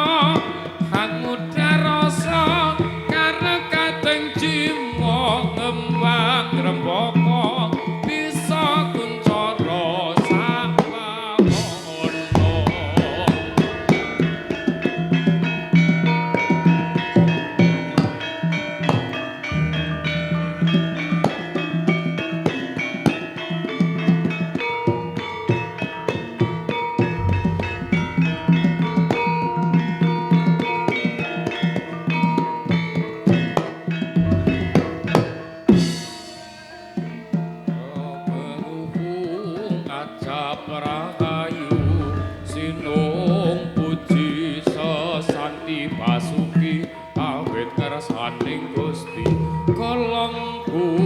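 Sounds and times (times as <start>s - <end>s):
hand drum strokes: 0.0s - 51.0s
struck metallophone notes: 0.0s - 51.0s.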